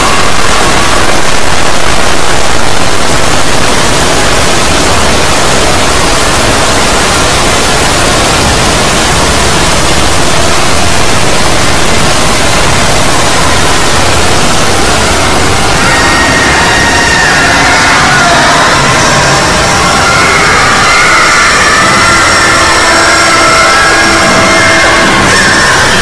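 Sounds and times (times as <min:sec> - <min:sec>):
loud static noise: 0:00.0 - 0:26.0.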